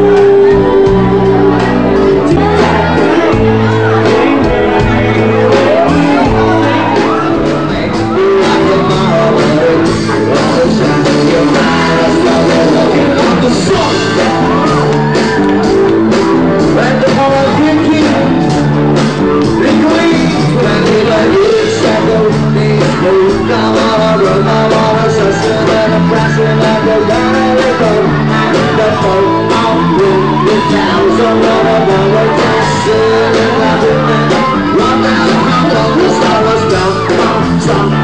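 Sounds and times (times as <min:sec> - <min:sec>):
electric guitar: 0:00.0 - 0:38.0
person singing: 0:00.0 - 0:38.0
steady drum beat: 0:00.0 - 0:38.0.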